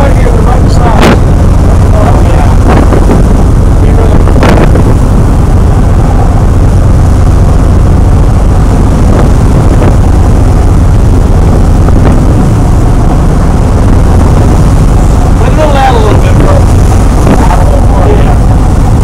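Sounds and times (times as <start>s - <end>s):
boat engine drone: 0.0s - 19.0s
rushing water: 0.0s - 19.0s
wind rumble on microphone: 0.0s - 19.0s.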